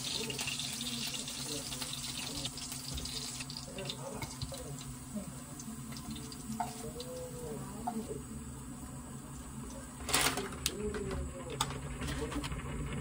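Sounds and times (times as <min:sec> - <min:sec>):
frying pan sizzling: 0:00.0 - 0:13.0.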